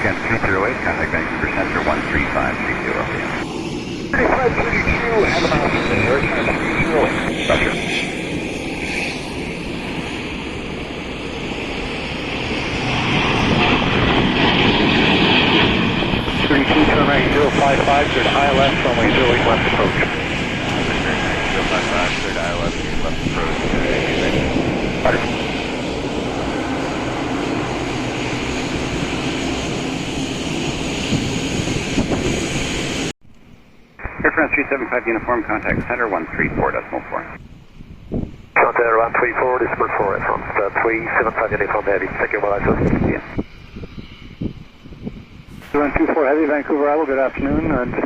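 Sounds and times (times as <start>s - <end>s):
jet engines roaring: 0.0s - 48.0s.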